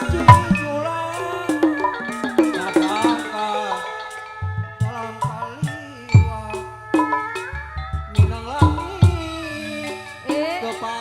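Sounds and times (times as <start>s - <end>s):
drum strokes with falling pitch: 0.0s - 11.0s
gamelan ensemble playing: 0.0s - 11.0s
wavering melody line: 0.0s - 11.0s.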